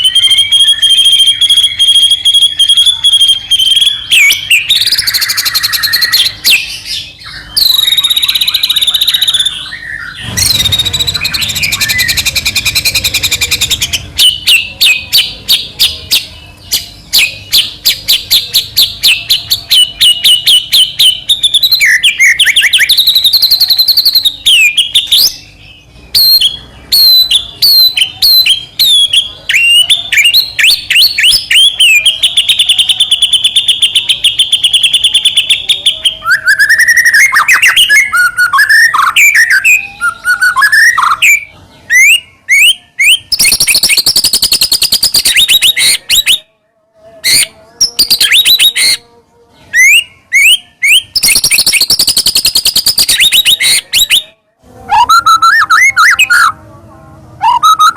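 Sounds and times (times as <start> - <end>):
bird singing whistles and trills: 0.0 - 46.5, 49.8 - 54.3.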